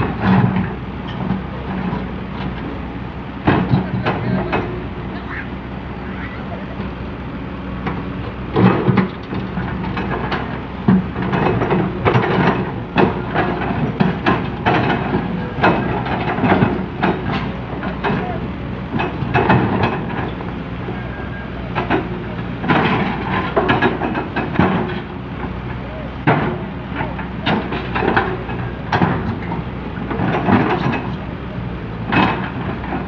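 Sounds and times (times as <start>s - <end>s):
excavator bucket clanking and scraping: 0.0s - 33.0s
excavator diesel engine running: 0.0s - 33.0s.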